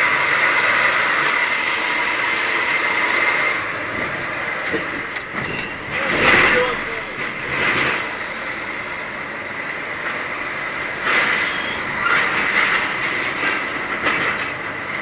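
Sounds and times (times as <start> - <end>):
constant high whine: 0.0 - 13.0.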